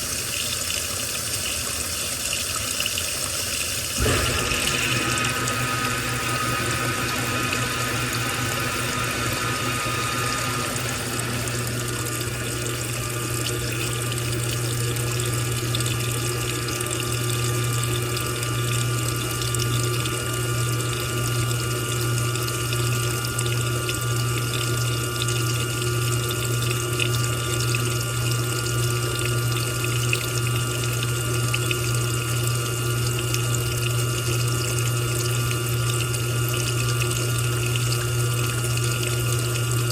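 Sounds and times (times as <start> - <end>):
washing machine motor hum: 0.0 - 39.9
water flowing in washing machine: 0.0 - 39.9.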